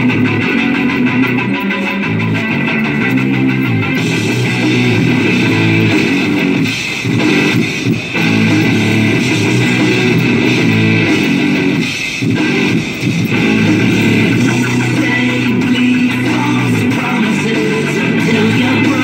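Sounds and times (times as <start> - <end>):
rock music on radio: 0.0 - 19.0.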